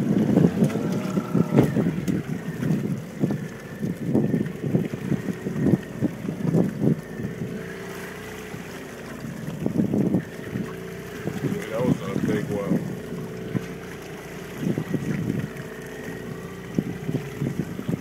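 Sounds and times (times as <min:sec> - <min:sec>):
faint outboard motor hum: 0:00.0 - 0:18.0
water slapping against boat hull: 0:00.0 - 0:18.0
wind on microphone: 0:00.0 - 0:18.0.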